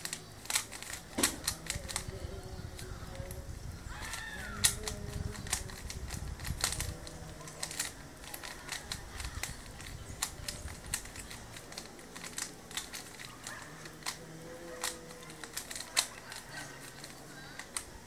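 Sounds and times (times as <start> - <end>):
plastic puzzle cube clicking: 0.0 - 18.0.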